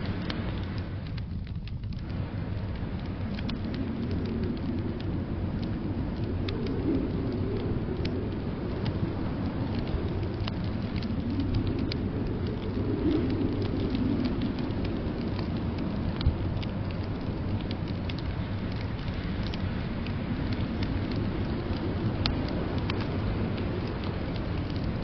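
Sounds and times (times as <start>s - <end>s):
blizzard wind rumbling: 0.0s - 25.0s
wood fire crackling: 0.0s - 25.0s.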